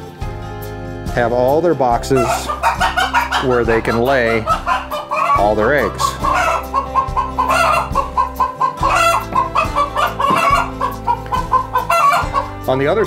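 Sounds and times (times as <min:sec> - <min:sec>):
background music with bass line: 0:00.0 - 0:13.0
hens clucking: 0:01.9 - 0:13.0.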